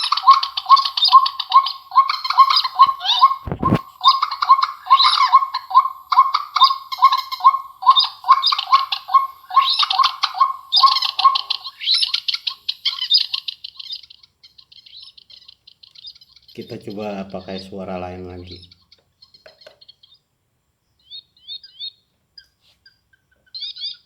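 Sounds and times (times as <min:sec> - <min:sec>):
squawking bird chirps from speaker: 0:00.0 - 0:20.2, 0:21.0 - 0:22.0, 0:23.5 - 0:24.0.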